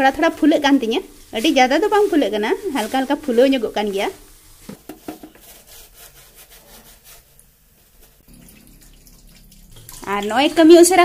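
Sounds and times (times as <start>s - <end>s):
food frying in hot oil: 0.0s - 6.0s, 7.2s - 11.0s.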